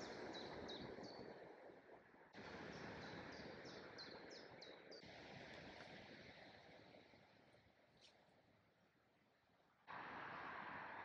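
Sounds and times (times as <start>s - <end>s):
outdoor air and foliage rush: 0.0s - 11.0s.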